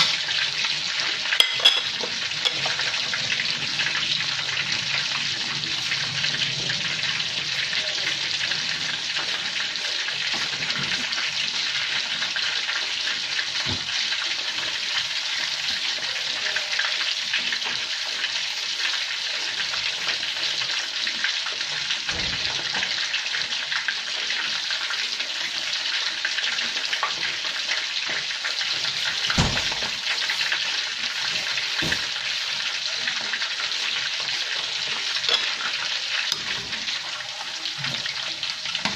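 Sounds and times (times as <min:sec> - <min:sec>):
chicken sizzling in oil: 0:00.0 - 0:38.9.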